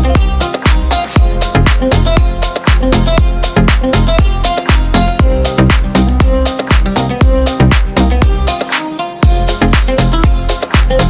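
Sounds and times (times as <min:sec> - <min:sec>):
dance-pop music with kick drum: 0:00.0 - 0:11.0.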